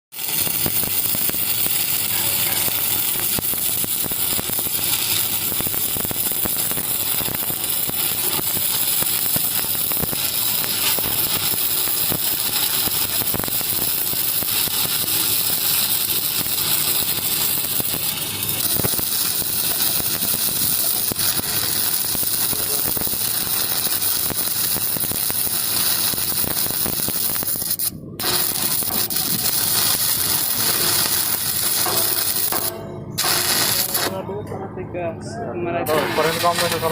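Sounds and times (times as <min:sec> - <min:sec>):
arc welding crackling hiss: 0:00.1 - 0:34.2, 0:35.9 - 0:36.9.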